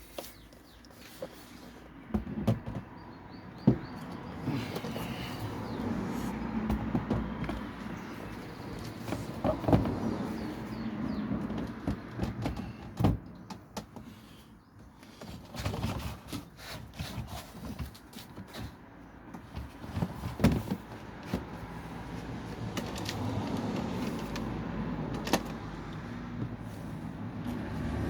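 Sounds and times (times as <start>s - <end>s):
knocks and clunks of items handled: 0.0s - 5.8s, 6.5s - 21.9s, 22.5s - 26.9s.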